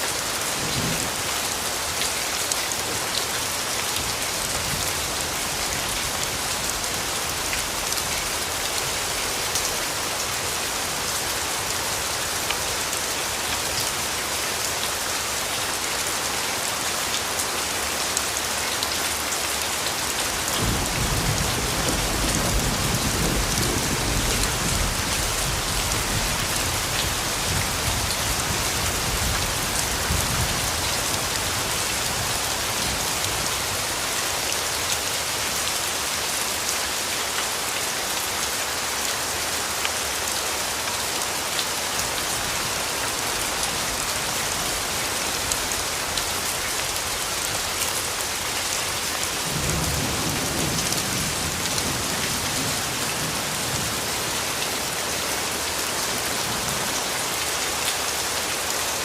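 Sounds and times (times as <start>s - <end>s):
steady rainfall hiss: 0.0s - 59.0s.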